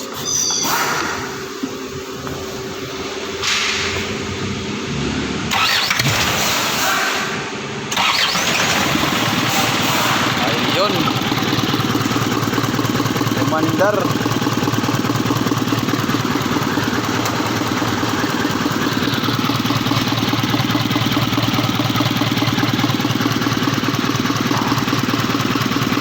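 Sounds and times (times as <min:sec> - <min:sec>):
diesel engine idling: 0:01.2 - 0:06.0, 0:07.6 - 0:26.0.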